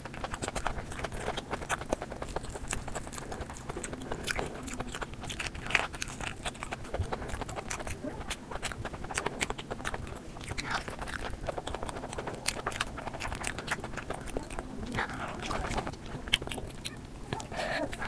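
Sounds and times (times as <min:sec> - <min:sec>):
chewing and mouth smacking: 0:00.0 - 0:18.0.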